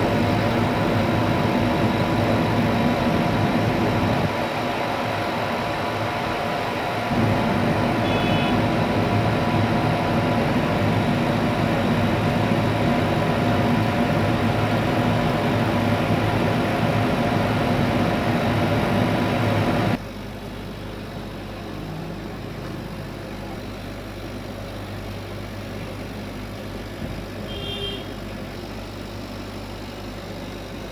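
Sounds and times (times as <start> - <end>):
laser cutter mechanical hum: 0.0 - 30.9.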